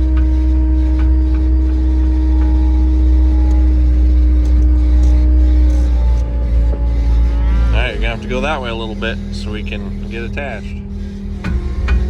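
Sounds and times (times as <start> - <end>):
engine rumbling: 0.0 - 12.0
steady engine hum: 0.0 - 12.0.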